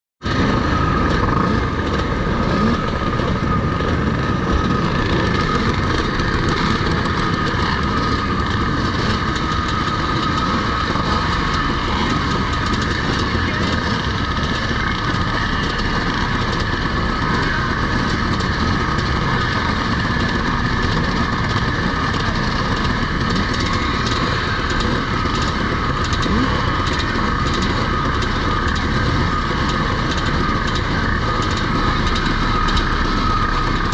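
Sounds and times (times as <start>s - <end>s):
motorcycle engines droning: 0.2s - 33.9s.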